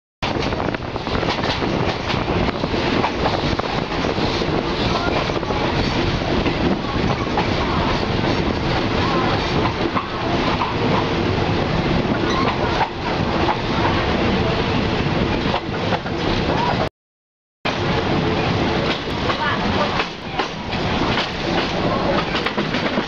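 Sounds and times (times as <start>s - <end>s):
train wheels rumbling: 0.2s - 16.9s, 17.7s - 23.0s.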